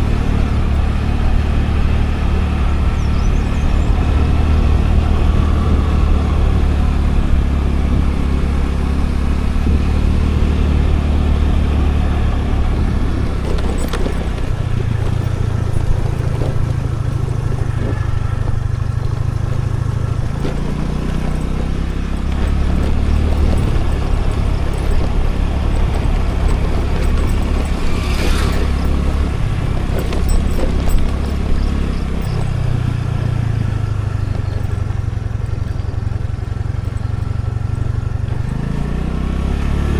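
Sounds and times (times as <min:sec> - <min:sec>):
road noise: 0:00.0 - 0:39.9
scooter engine rumbling: 0:00.0 - 0:39.9.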